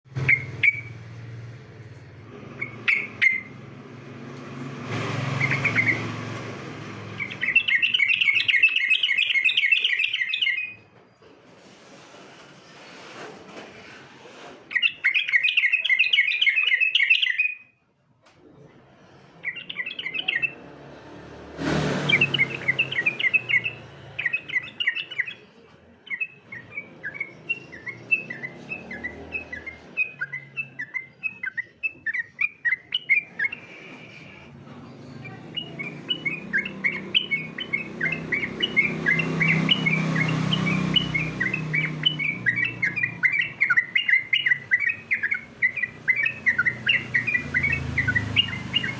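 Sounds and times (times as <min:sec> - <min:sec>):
bird chirping song: 0:00.1 - 0:03.9, 0:04.8 - 0:10.9, 0:14.7 - 0:17.8, 0:19.4 - 0:20.8, 0:22.0 - 0:48.9.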